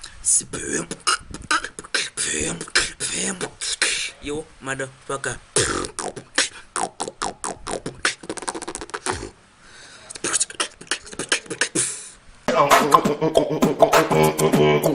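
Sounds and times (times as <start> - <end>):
person beatboxing: 0.0 - 4.2, 5.6 - 9.4, 10.1 - 14.9
continuous pitched vocal sound: 0.0 - 4.4, 5.6 - 14.9.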